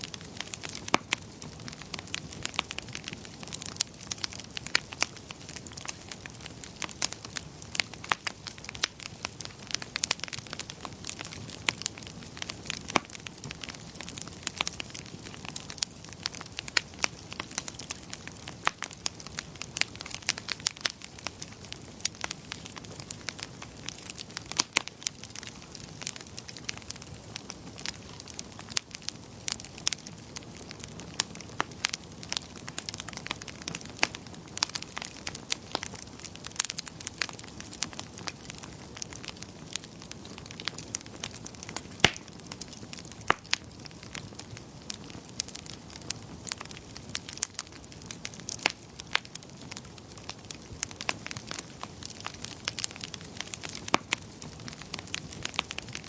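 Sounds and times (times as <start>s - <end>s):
low hiss of burning: 0.0s - 56.0s
wood fire crackling and popping: 0.0s - 56.0s.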